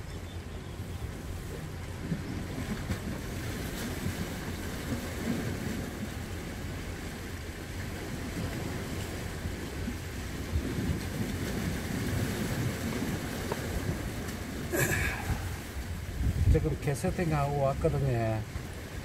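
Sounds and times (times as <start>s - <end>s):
wind on microphone: 0.0s - 19.0s
waves washing against rocks: 1.1s - 19.0s.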